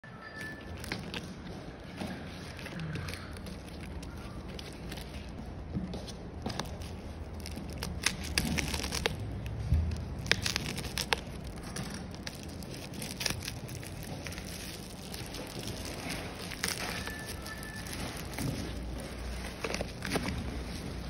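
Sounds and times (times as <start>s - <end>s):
plastic mailer tearing and crinkling: 2.2s - 5.4s, 6.5s - 21.0s.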